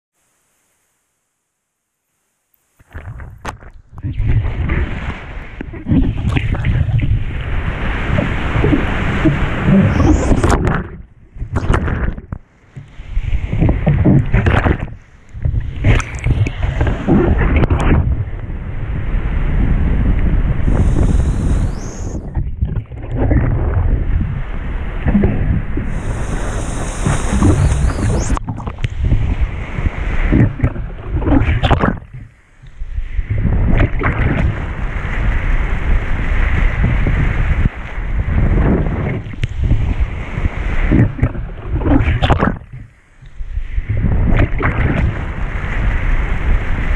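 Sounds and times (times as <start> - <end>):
surf water rushing and splashing: 2.7 - 46.9
wind buffeting microphone: 3.0 - 46.9.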